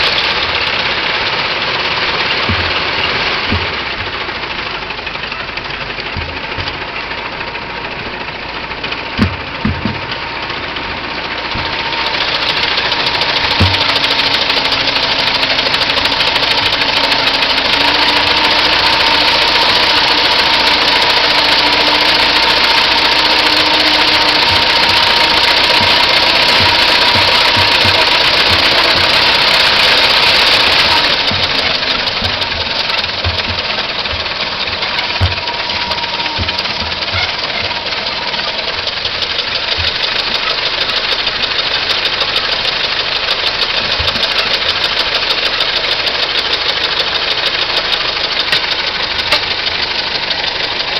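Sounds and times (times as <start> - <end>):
old car engine running: 0.0 - 50.9.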